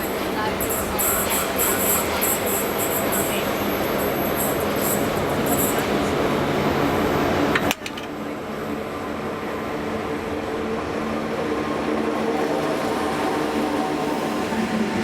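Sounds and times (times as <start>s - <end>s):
diesel locomotive humming: 0.0s - 15.0s.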